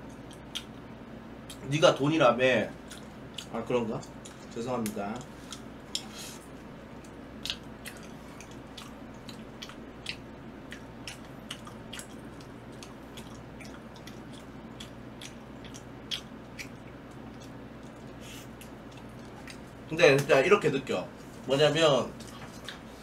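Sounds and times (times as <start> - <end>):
man chewing pizza: 0.0 - 23.0.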